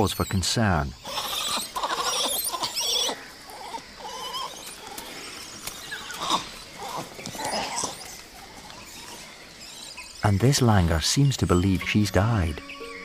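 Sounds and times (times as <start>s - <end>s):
monkeys calling: 0.0s - 13.0s.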